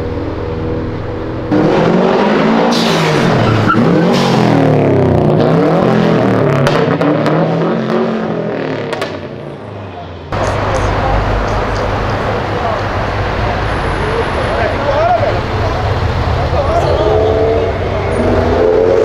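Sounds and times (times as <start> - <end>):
steady engine drone: 0.0 - 8.5, 9.2 - 19.0
car engine revving: 0.0 - 19.0.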